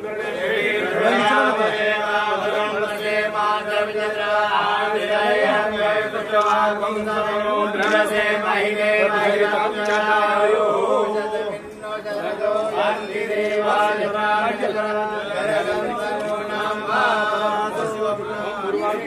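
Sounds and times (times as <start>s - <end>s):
men chanting mantras: 0.0s - 19.0s.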